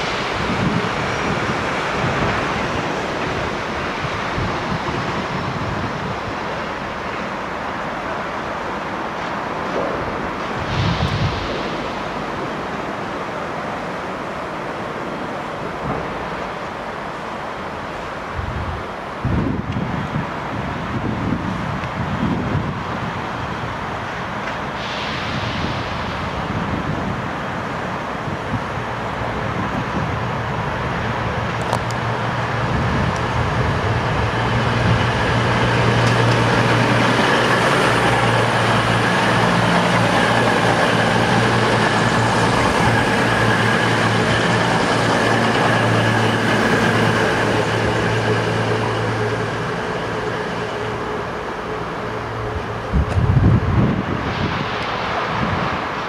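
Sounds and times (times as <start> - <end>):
diesel train passing: 0.0 - 56.0.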